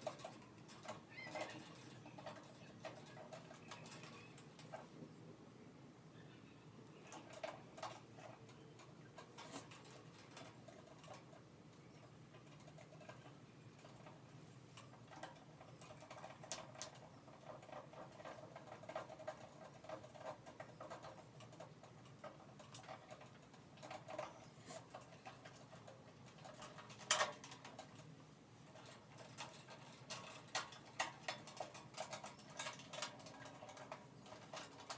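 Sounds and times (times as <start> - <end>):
wires clicking and rustling: 0.0 - 5.2, 6.8 - 34.9.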